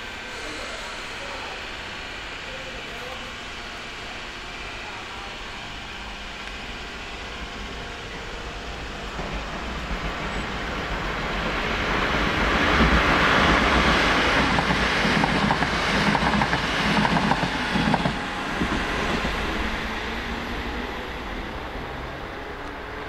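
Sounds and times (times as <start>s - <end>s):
train rushing past: 0.0s - 23.0s.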